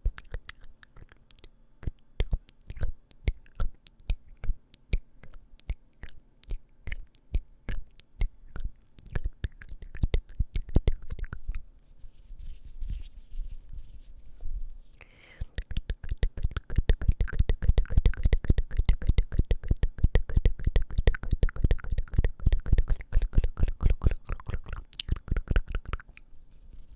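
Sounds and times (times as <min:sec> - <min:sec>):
wet mouth clicks and lip smacks: 0:00.0 - 0:11.6, 0:15.4 - 0:26.3.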